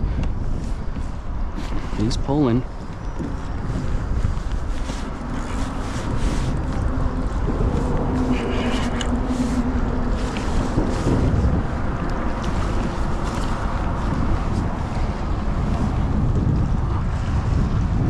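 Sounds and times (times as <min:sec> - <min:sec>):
steady rumbling noise: 0:00.0 - 0:18.0
water lapping around kayak: 0:00.0 - 0:18.0
wind buffeting microphone: 0:00.0 - 0:18.0.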